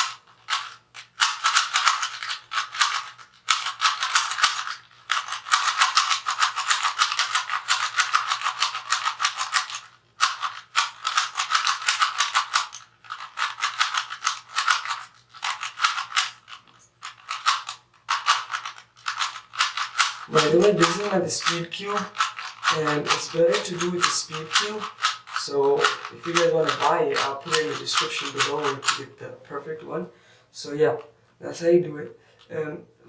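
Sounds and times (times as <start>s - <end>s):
puzzle cube plastic clicking: 0.0s - 29.0s.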